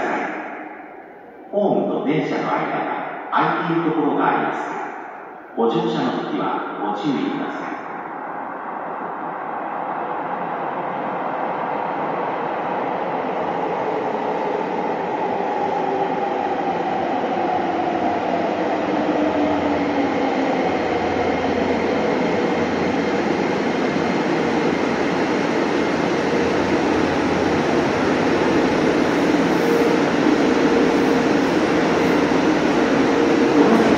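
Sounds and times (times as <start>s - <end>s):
subway train on rails: 0.0s - 33.9s.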